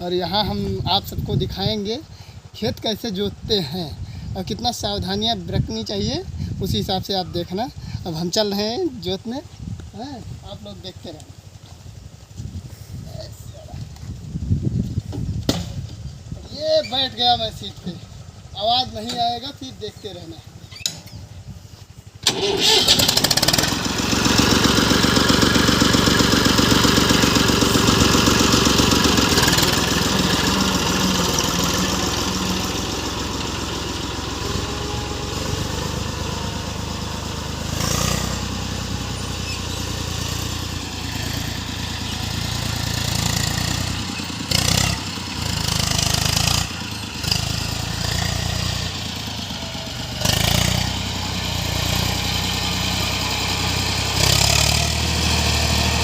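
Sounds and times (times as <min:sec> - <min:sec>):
tractor diesel engine: 0:00.0 - 0:14.5, 0:16.0 - 0:56.0.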